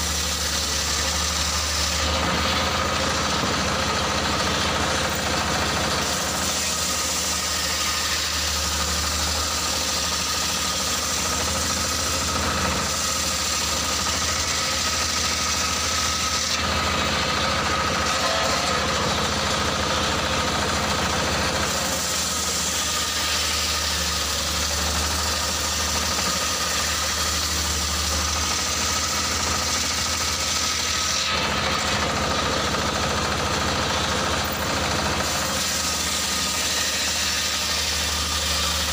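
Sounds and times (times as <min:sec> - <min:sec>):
circular saw cutting log: 0:00.0 - 0:38.9
stationary engine running: 0:00.0 - 0:38.9.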